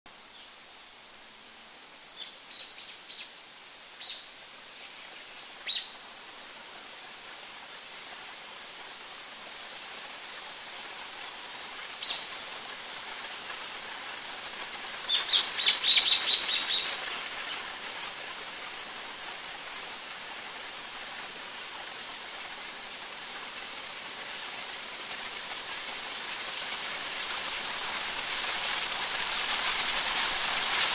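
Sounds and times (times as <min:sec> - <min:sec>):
steady hiss: 0:00.1 - 0:30.9.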